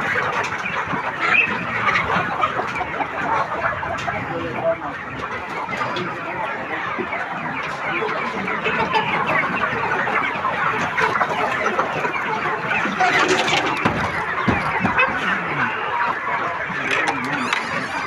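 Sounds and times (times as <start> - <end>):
flock of chickens clucking: 0.0 - 18.0.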